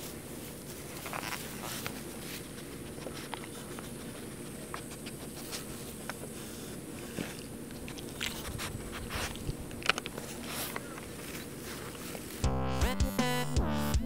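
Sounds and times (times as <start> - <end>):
rustle of fur and handling: 0.0 - 12.5.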